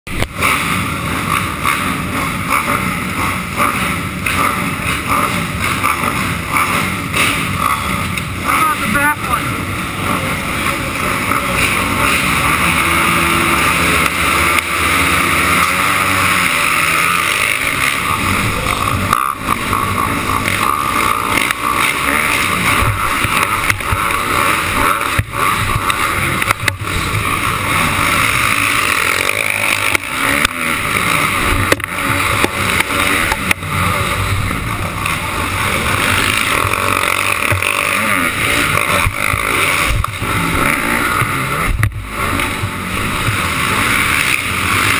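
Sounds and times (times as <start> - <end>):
dirt bike engines revving: 0.0 - 44.9
motorbike engine running hard: 0.0 - 44.9.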